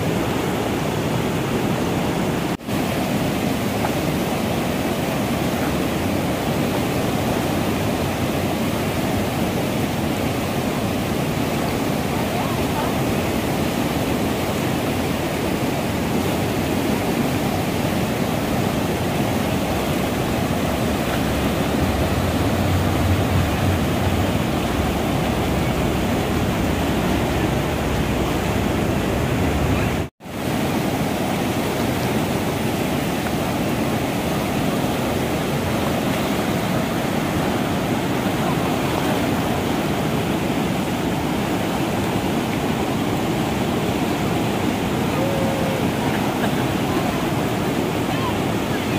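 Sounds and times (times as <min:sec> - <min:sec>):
water rushing over rocks: 0:00.0 - 0:48.9.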